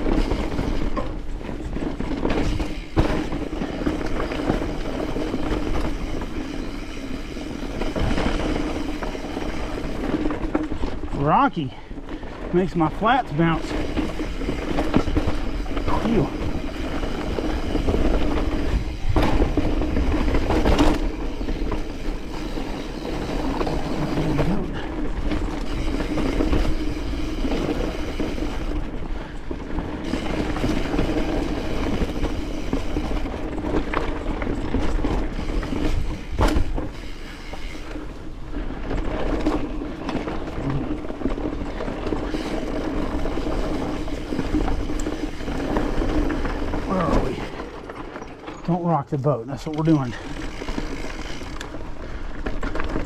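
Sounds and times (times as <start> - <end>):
bike rattling over rocks: 0.0 - 53.0.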